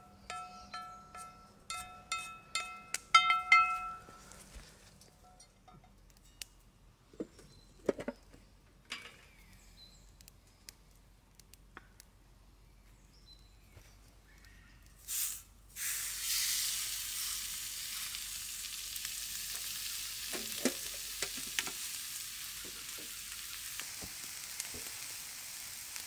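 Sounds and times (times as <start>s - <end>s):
quiet outdoor background: 0.0s - 26.0s.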